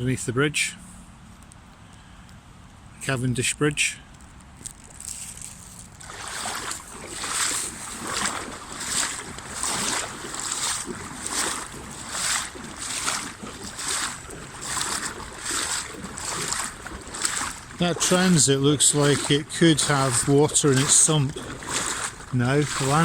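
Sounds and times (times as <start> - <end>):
wading steps sloshing in water: 4.4 - 23.0.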